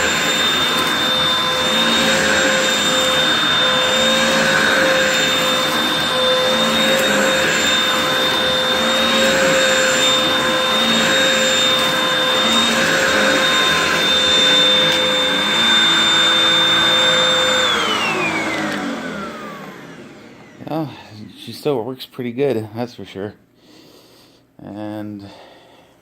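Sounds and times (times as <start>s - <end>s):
vacuum cleaner motor whine: 0.0s - 20.9s.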